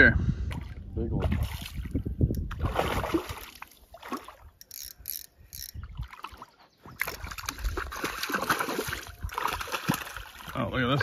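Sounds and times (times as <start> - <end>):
fish splashing and thrashing in water: 0.6 - 4.6, 5.8 - 10.6.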